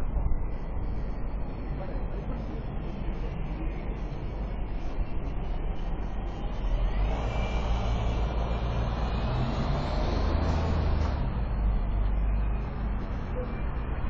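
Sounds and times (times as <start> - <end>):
bus engine rumble: 0.0 - 14.0
city traffic passing: 0.6 - 14.0.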